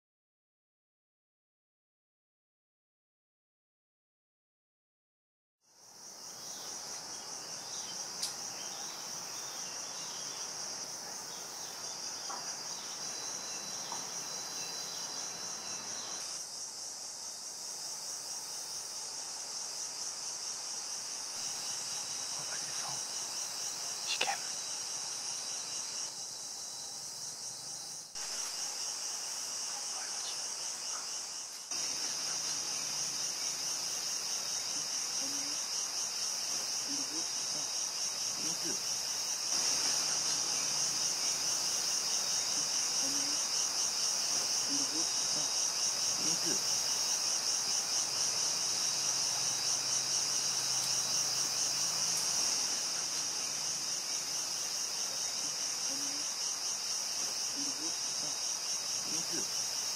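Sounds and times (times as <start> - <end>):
insects droning: 5.6 - 59.9.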